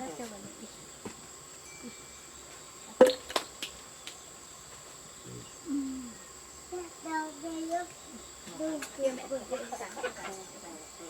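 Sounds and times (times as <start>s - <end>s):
high insect chirring: 0.0s - 11.0s.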